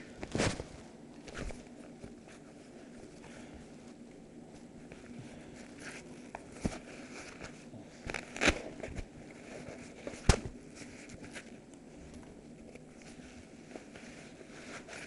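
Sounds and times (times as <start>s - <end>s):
cloth rustling against device: 0.0s - 15.0s.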